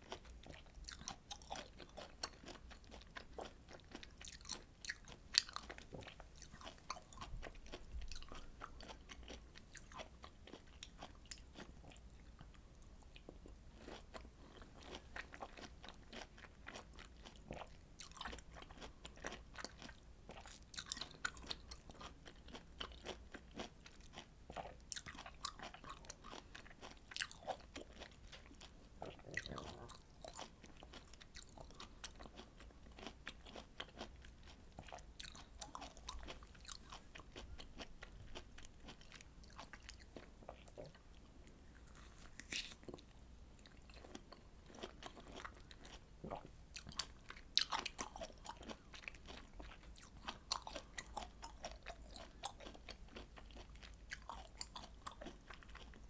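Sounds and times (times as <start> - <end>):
chewing juicy citrus fruit: 0.0 - 56.0.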